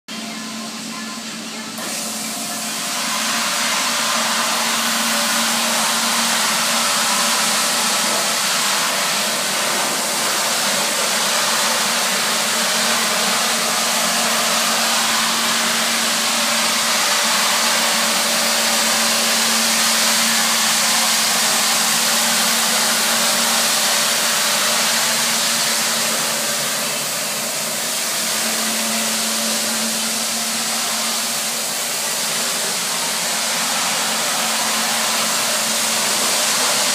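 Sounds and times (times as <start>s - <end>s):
floor scrubber hiss: 0.1s - 36.9s
floor scrubber motor hum: 0.1s - 36.9s.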